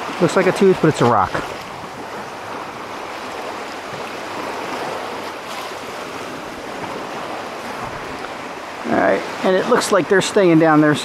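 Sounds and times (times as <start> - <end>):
small waves washing over pebbles: 0.0 - 11.0.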